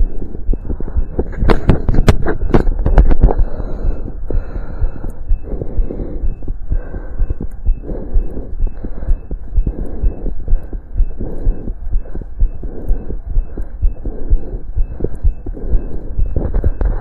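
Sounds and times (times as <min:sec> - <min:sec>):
fast heartbeat through stethoscope: 0:00.0 - 0:17.0
rushing noise between heartbeats: 0:00.0 - 0:17.0.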